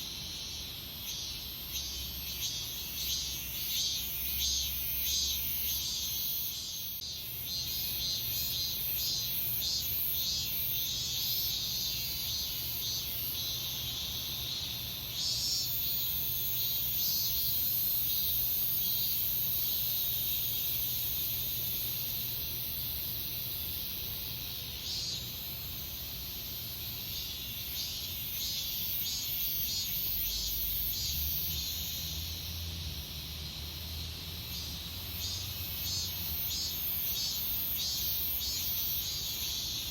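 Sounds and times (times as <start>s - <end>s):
cicadas singing in chorus: 0.0s - 39.9s.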